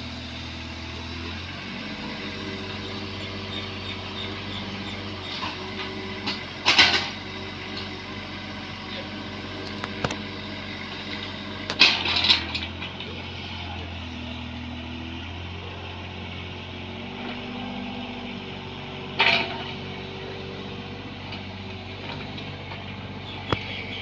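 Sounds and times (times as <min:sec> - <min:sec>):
diesel excavator engine running: 0:00.0 - 0:24.0.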